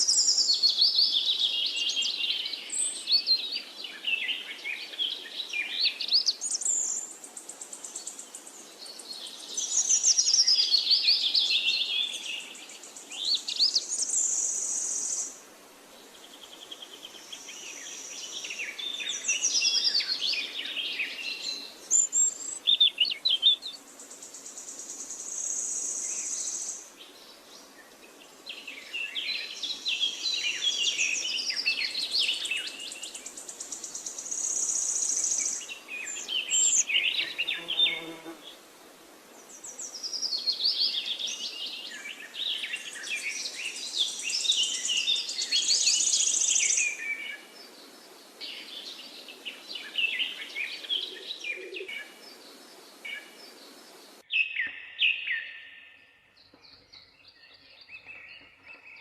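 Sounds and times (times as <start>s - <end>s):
songbirds chirping and warbling: 0.0s - 59.0s.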